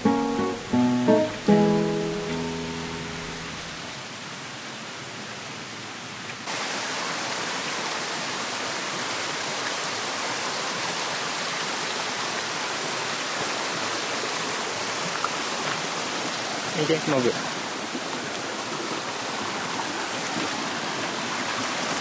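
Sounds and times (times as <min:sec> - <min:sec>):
waterfall rushing: 0:00.0 - 0:04.5, 0:06.4 - 0:22.0.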